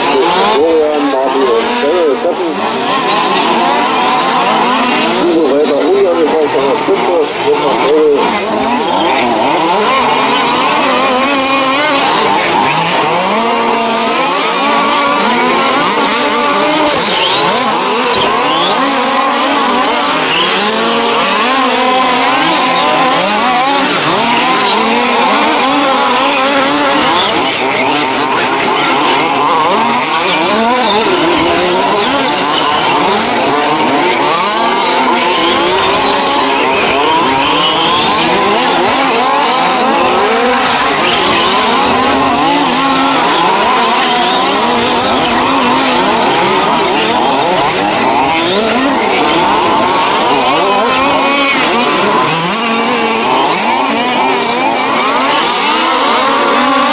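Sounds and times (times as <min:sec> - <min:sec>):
rc car engines revving: 0:00.0 - 0:56.9.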